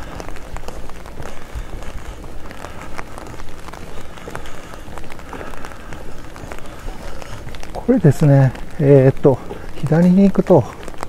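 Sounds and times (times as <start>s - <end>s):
footsteps walking: 0.0s - 11.0s.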